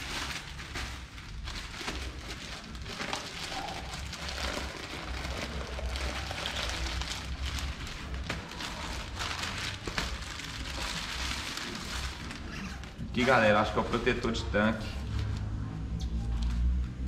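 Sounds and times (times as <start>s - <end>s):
plastic mailer crinkling and tearing: 0.0s - 14.4s.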